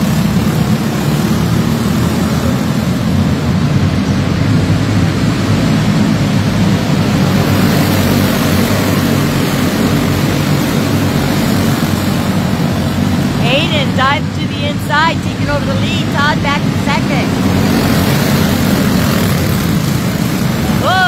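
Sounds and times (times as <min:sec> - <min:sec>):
go-kart engines droning: 0:00.0 - 0:21.0.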